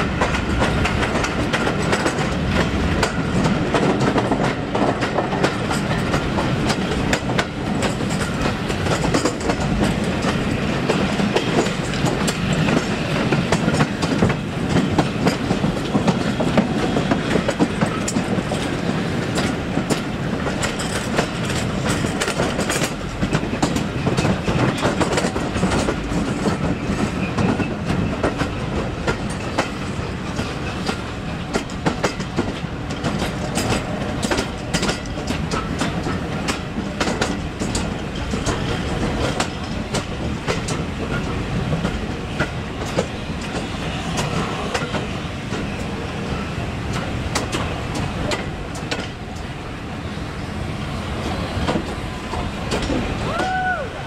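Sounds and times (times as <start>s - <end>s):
wheels clicking over rail joints: 0.0s - 50.0s, 50.8s - 54.0s
train rumbling along rails: 0.0s - 54.0s.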